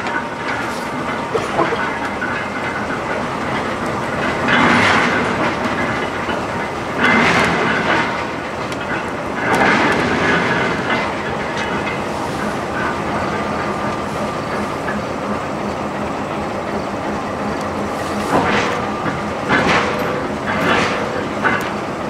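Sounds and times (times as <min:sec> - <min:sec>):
diesel locomotive rolling: 0:00.0 - 0:22.0
wheels clacking over rail joints: 0:00.0 - 0:22.0.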